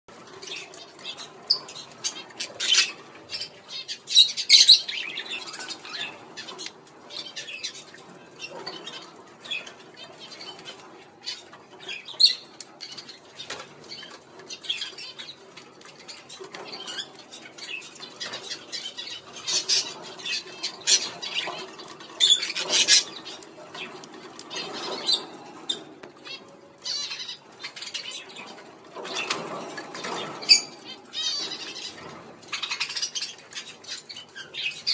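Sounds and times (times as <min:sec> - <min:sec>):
budgerigars chirping: 0:00.4 - 0:15.4, 0:16.0 - 0:34.9.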